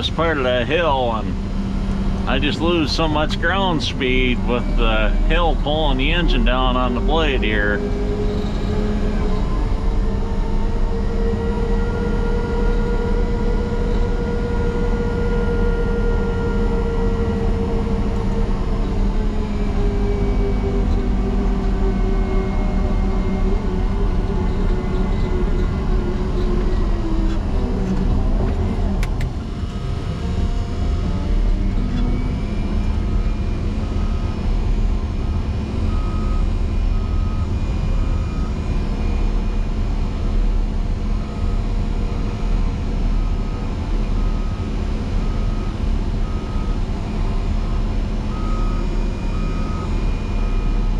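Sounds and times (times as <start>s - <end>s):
diesel engine under heavy load: 0.0s - 50.9s.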